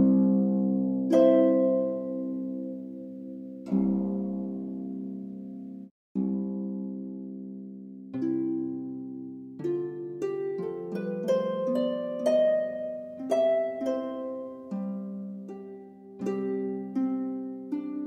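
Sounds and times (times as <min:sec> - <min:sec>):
slow instrumental melody: 0:00.0 - 0:05.2, 0:08.2 - 0:18.0.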